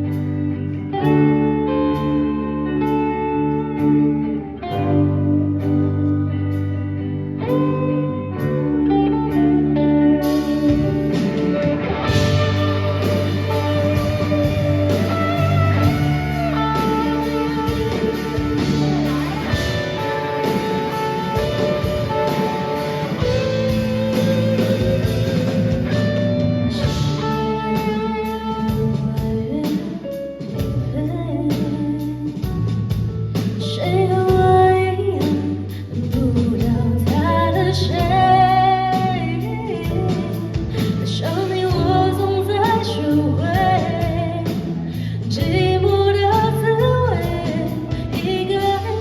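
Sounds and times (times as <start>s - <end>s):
bass guitar: 0.0s - 49.0s
drums: 0.0s - 49.0s
electric guitar melody: 0.0s - 49.0s.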